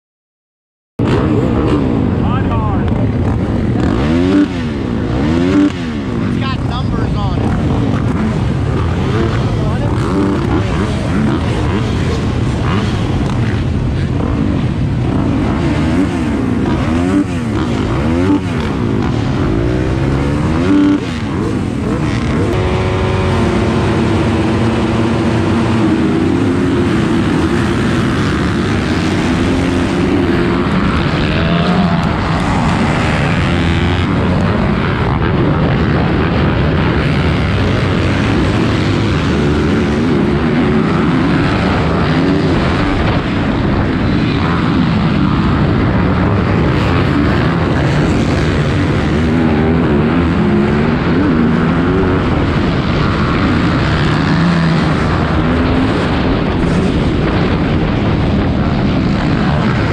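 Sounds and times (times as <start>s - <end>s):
dirt bike accelerating hard: 1.0s - 59.9s
dirt bike engines revving: 1.0s - 59.9s.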